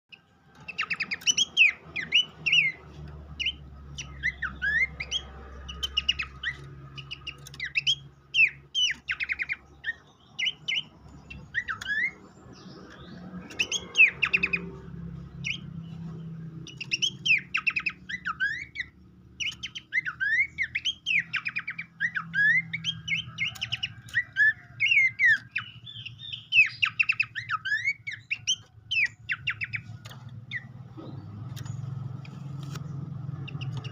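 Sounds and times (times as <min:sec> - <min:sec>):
bird chirps and whistles: 0:00.1 - 0:02.8, 0:03.4 - 0:14.7, 0:15.4 - 0:15.6, 0:16.7 - 0:29.9.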